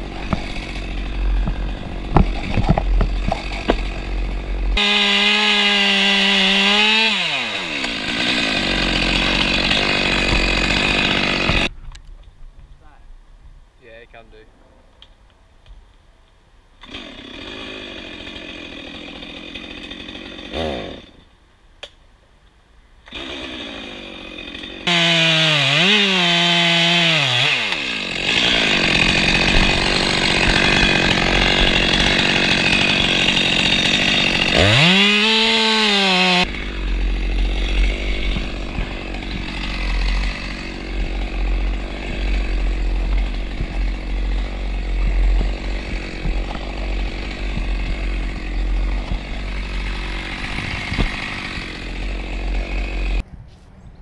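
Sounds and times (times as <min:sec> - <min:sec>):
chainsaw cutting wood: 0:00.0 - 0:11.7, 0:16.8 - 0:21.3, 0:23.1 - 0:53.2.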